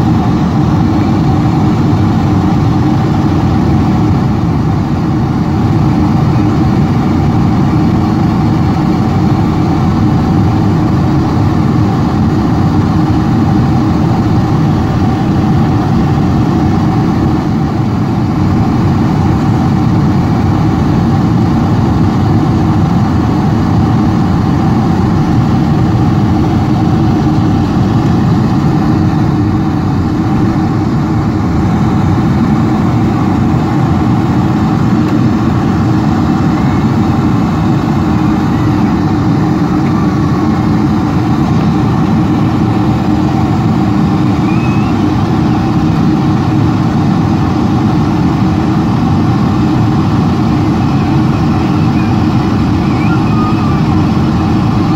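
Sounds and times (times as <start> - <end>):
airplane cabin engine rush: 0.0 - 54.9.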